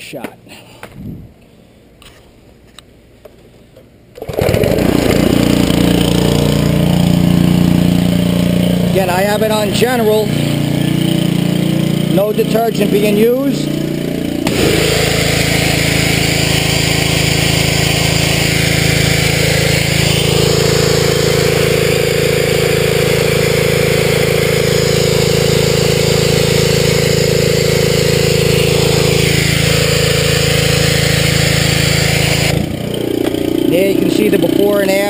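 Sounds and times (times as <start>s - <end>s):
pressure washer engine running: 4.2s - 35.0s.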